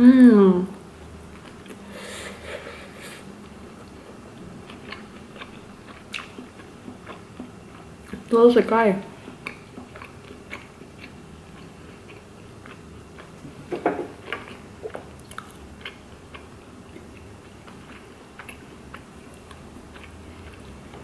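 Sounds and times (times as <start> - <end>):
person chewing food: 1.3 - 8.3, 9.2 - 21.0.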